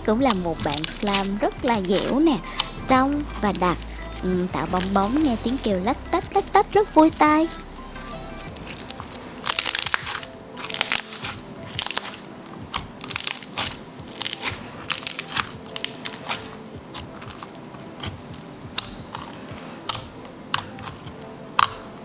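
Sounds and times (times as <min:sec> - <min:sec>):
slime bubbles popping: 0:00.0 - 0:21.9
soft background music: 0:00.0 - 0:22.0.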